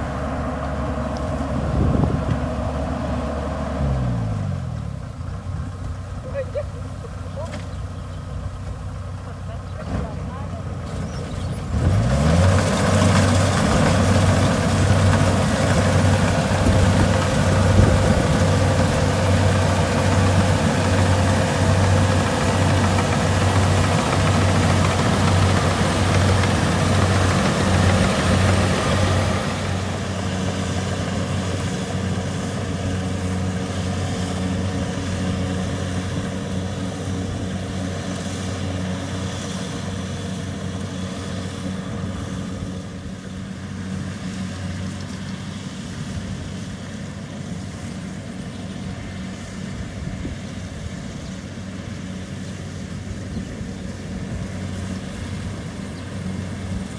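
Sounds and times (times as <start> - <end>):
diesel engine pulsing drone: 0.0 - 56.9.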